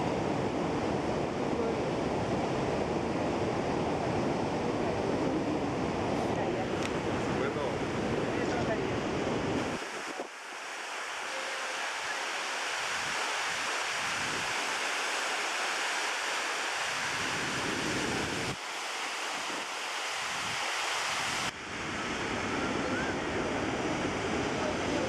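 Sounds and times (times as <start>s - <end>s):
wind rumble on microphone: 0.0s - 10.6s, 12.7s - 14.9s, 16.7s - 18.6s, 19.3s - 25.0s
waterfall and rapids rushing: 0.0s - 25.0s.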